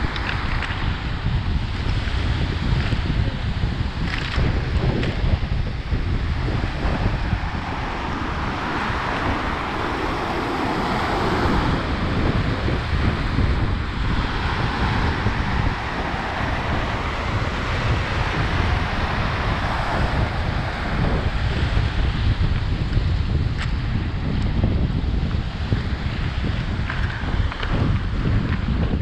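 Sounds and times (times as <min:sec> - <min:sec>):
waves washing onto shore: 0:00.0 - 0:29.0
wind buffeting microphone: 0:00.0 - 0:29.0.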